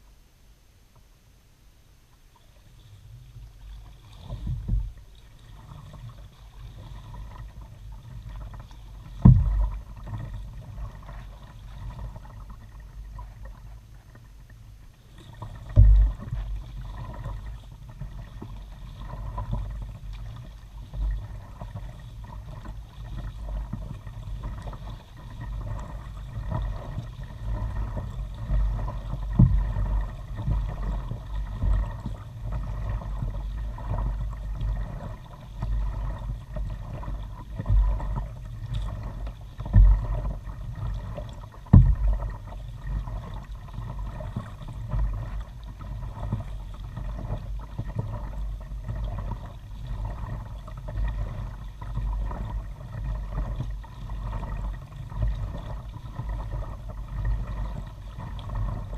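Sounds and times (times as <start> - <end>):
low rumble through hull: 0.0 - 58.9
paddle strokes swishing and dripping: 2.2 - 58.9.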